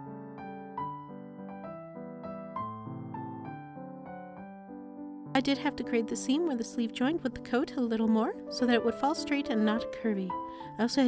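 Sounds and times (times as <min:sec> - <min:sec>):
soft piano-like keyboard melody: 0:00.0 - 0:11.0.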